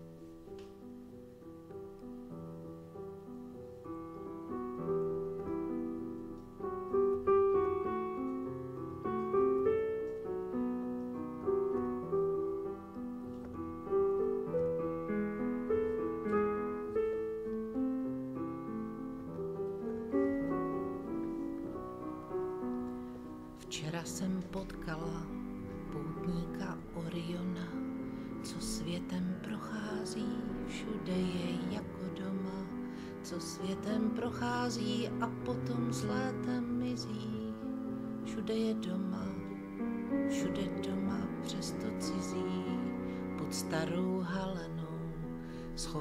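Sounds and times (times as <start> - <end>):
slow piano chords and melody: 0.0 - 46.0.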